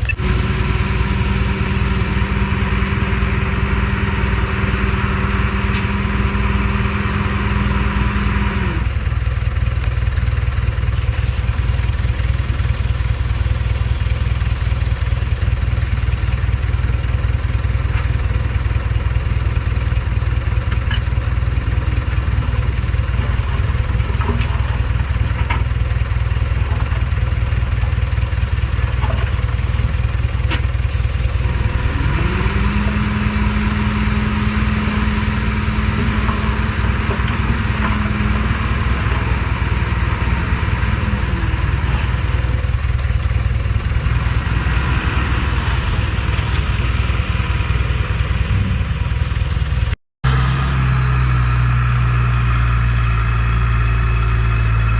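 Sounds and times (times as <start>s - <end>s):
diesel machinery engine rumble: 0.0s - 54.9s.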